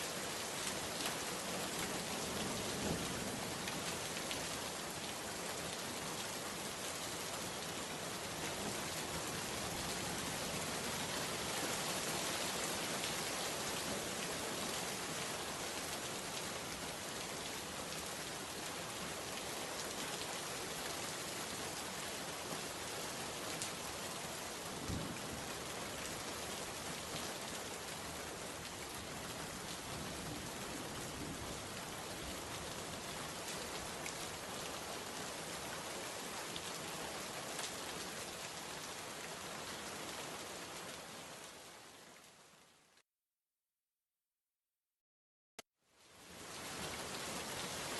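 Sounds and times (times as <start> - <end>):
steady rain falling: 0.0 - 43.0, 45.8 - 47.9.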